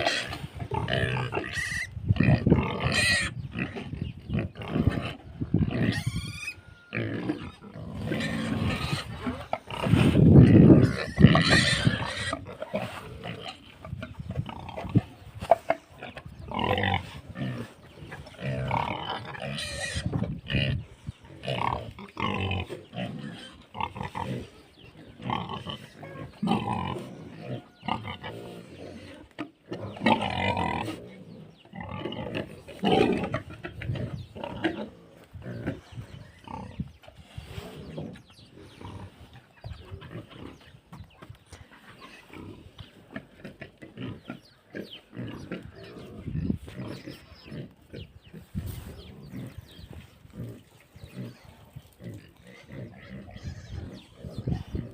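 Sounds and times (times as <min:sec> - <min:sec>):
pigs grunting: 0:00.0 - 0:54.9.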